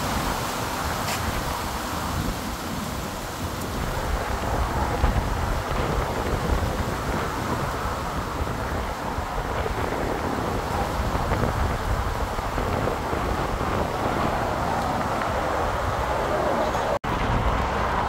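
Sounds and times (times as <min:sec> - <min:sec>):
rain falling: 0:00.0 - 0:18.0
wind buffeting microphone: 0:00.0 - 0:18.0.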